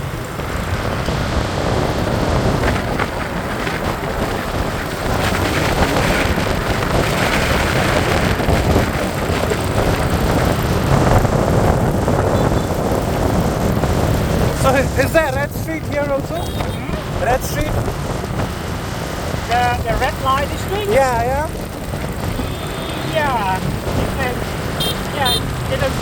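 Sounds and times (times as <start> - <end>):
street traffic: 0.0 - 26.0
wind rushing over microphone: 0.0 - 26.0.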